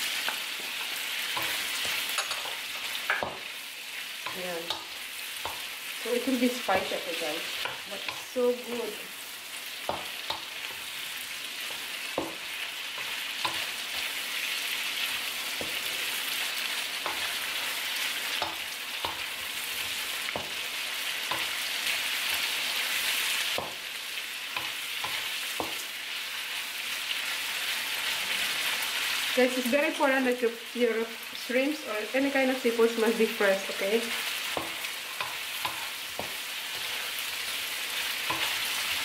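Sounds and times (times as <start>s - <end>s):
prawns sizzling in a wok: 0.0s - 39.0s.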